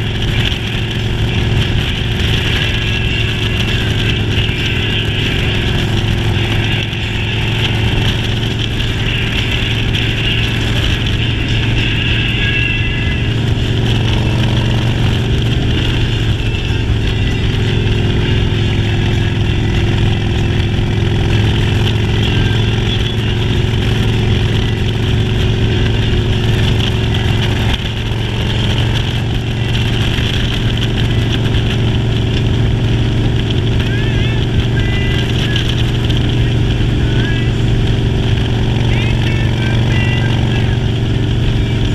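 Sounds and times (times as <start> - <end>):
motorcycle engine hum: 0.0 - 41.9.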